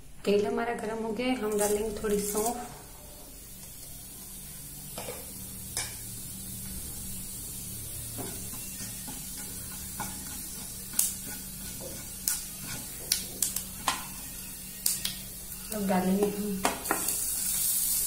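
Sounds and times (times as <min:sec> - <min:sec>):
seeds sizzling in oil: 0:01.4 - 0:18.0.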